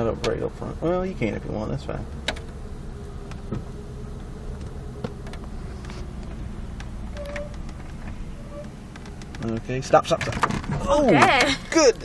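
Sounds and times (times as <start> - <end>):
engine and road rumble: 0.0 - 12.0
faint steady whine: 0.0 - 12.0.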